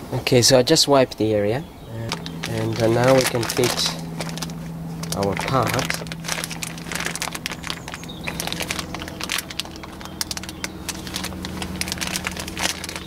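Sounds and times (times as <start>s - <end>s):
steady low hum: 0.0s - 13.0s
crackling and crinkling: 2.0s - 13.0s.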